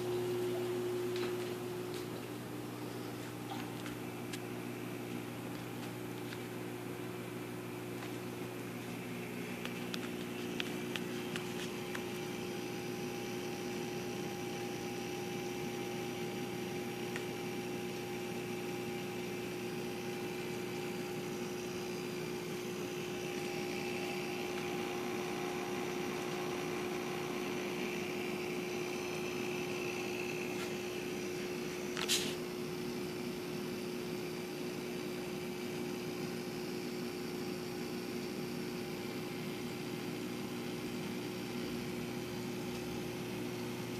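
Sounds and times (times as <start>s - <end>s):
aquarium pumps humming: 0.0s - 43.9s.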